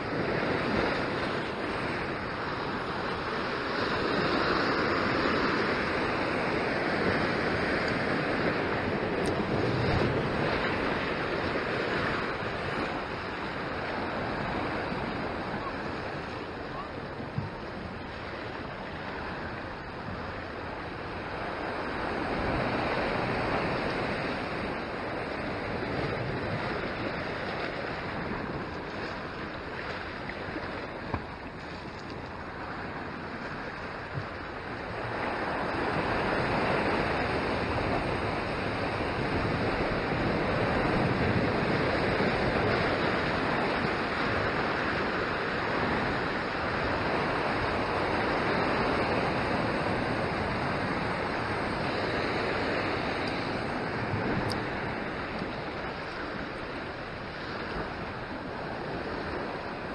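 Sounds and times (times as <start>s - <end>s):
ocean swell washing against rocks: 0.0s - 59.9s
wind on microphone: 0.0s - 59.9s.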